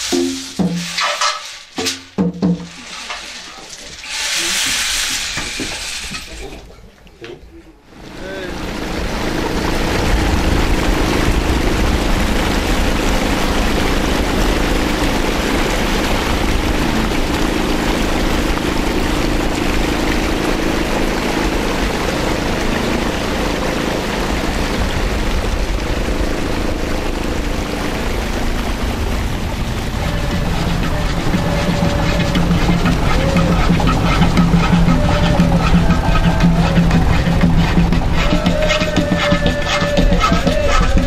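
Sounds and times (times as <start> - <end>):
water rushing around hull: 0.0 - 41.0
small boat motor running: 7.8 - 41.0.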